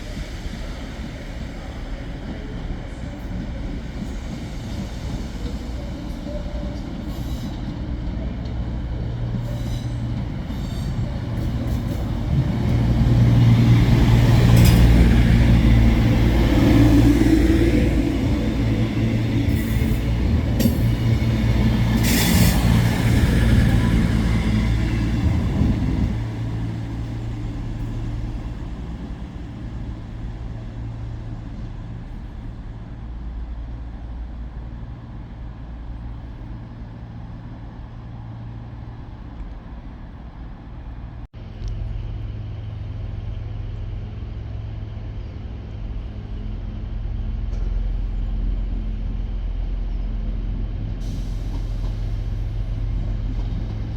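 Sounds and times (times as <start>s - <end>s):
train engine humming: 0.0s - 53.9s.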